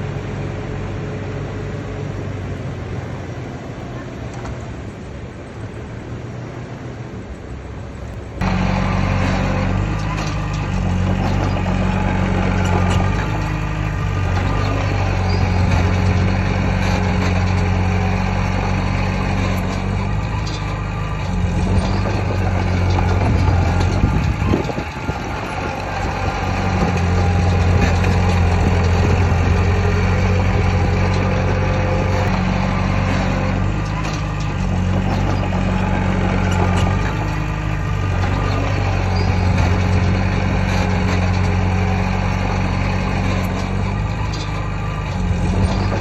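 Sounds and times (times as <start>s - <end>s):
heavy diesel engine running: 0.0s - 6.2s, 6.8s - 46.0s.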